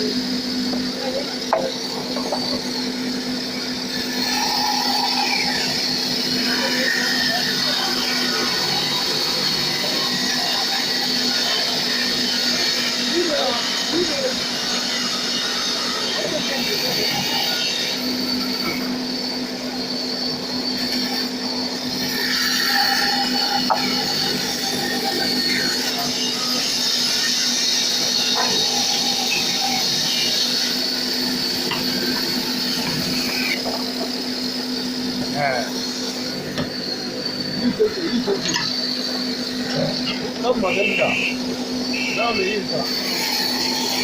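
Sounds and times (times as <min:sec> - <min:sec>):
band saw motor hum: 0:00.0 - 0:44.0.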